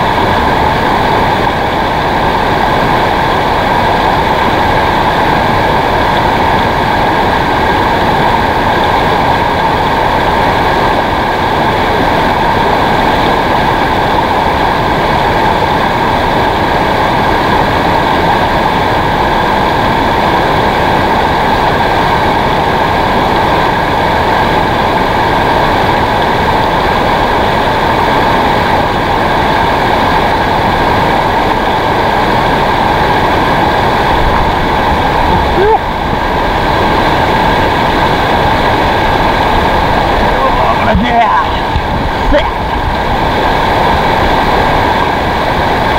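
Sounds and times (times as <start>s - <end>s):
river rapids rushing over rocks: 0.0s - 45.9s.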